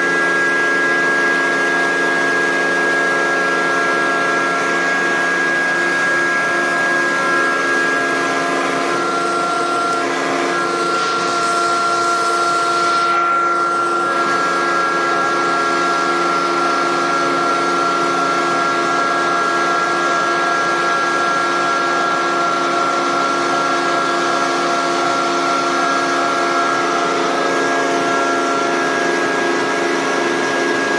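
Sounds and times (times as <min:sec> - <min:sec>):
electric motor and pump whining: 0:00.0 - 0:30.9.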